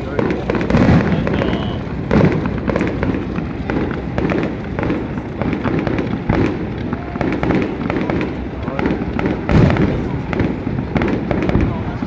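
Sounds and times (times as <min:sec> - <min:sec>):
firework booms: 0:00.0 - 0:12.0
fireworks popping and crackling: 0:00.0 - 0:12.0.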